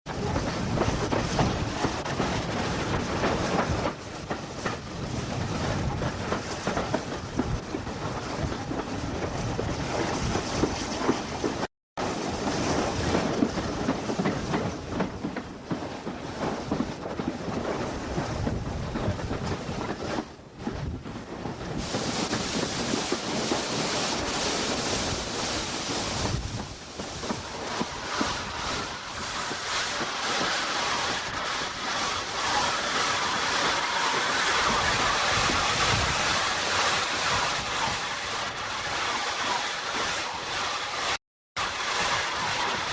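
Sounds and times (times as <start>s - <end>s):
rail noise and rattling: 0.1s - 42.9s
steam locomotive running: 0.1s - 42.9s
steam hiss: 0.2s - 16.6s, 21.7s - 42.9s.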